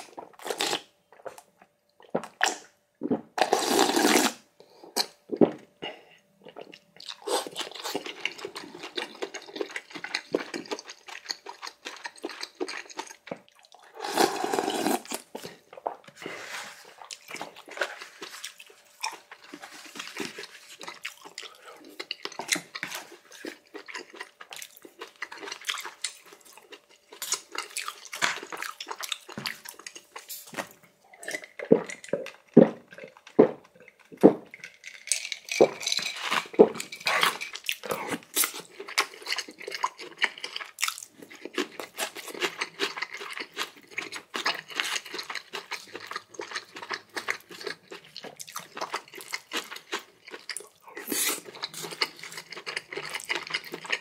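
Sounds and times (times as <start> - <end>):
person chewing and biting: 0.0 - 1.4, 6.5 - 15.9, 16.8 - 54.0.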